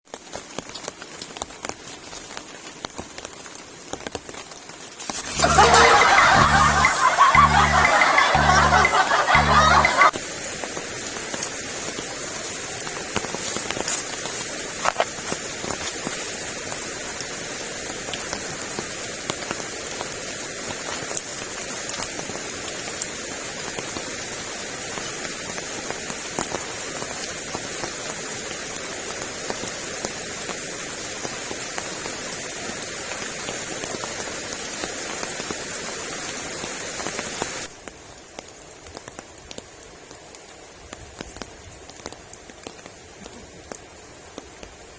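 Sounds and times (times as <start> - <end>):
heavy rain falling: 0.1 - 44.9.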